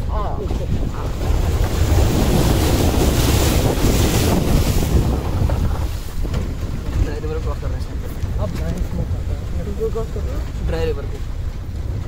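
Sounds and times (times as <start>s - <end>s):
vehicle low rumble: 0.0s - 12.0s
wind buffeting microphone: 0.0s - 12.0s.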